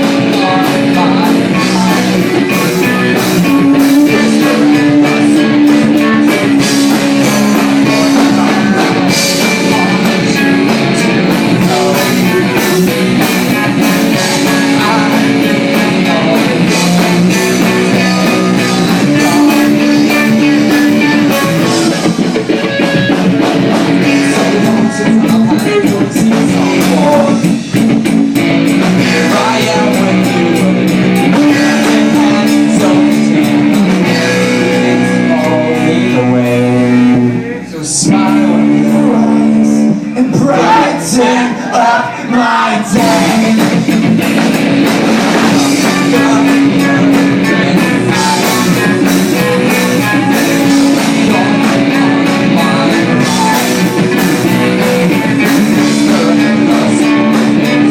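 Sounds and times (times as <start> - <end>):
rock band playing: 0.0 - 57.9.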